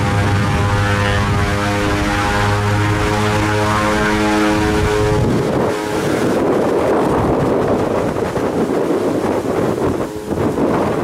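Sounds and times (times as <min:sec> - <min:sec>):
propeller drone: 0:00.0 - 0:11.0
wind buffeting microphone: 0:00.0 - 0:11.0.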